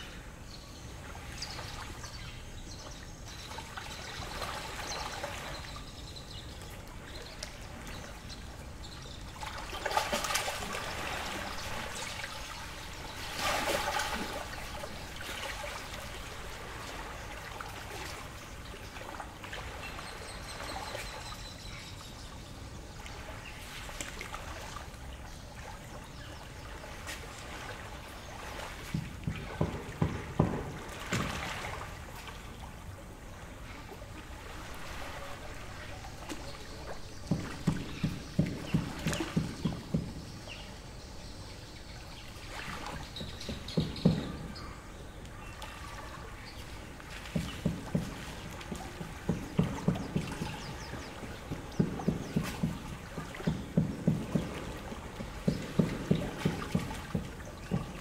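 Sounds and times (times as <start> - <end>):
water splashes: 0.0 - 58.0
waves lapping against shore: 0.0 - 58.0.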